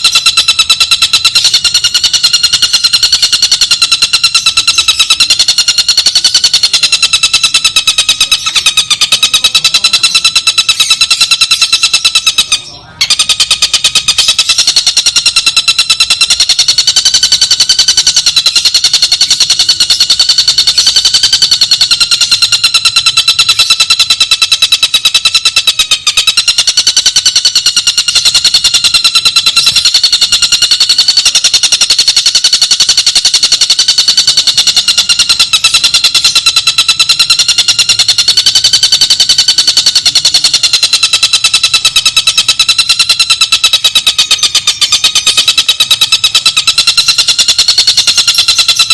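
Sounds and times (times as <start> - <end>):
bird buzzing trill: 0.0 - 48.9.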